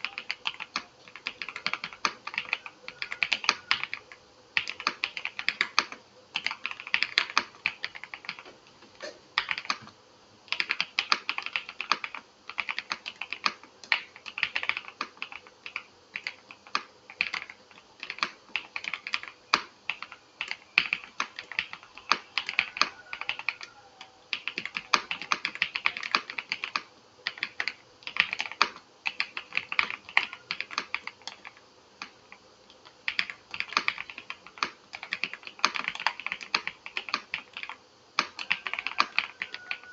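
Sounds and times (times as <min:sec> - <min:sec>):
mechanical keyboard typing: 0:00.0 - 0:08.5, 0:09.4 - 0:09.9, 0:10.5 - 0:23.7, 0:24.3 - 0:32.2, 0:32.8 - 0:39.9.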